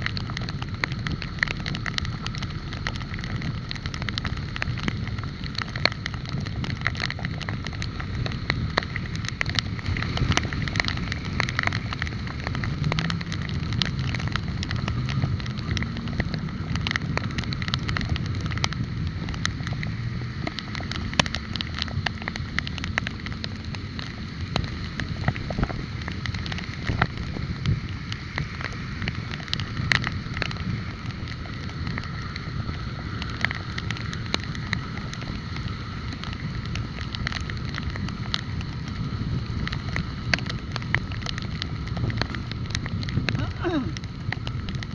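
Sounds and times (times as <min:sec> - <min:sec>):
road noise rumble: 0:00.0 - 0:44.9
small clicks and rattles: 0:00.0 - 0:44.9
wind on microphone: 0:00.0 - 0:44.9.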